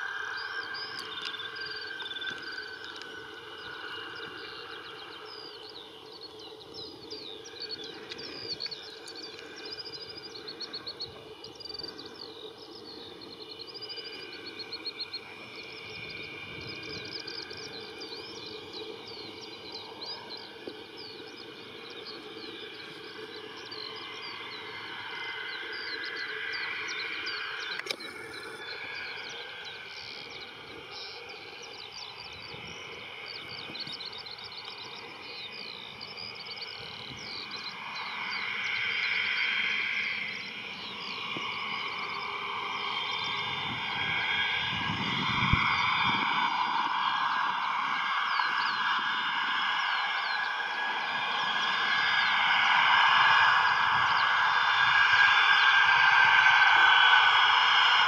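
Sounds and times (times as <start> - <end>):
small birds chirping: 0.0 - 46.8
steady background hum: 0.0 - 58.0.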